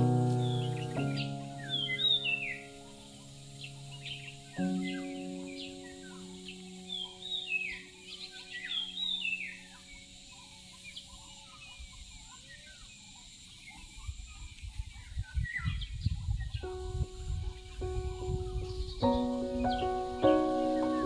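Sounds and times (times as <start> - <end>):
wild birds chirping: 0.0 - 21.0.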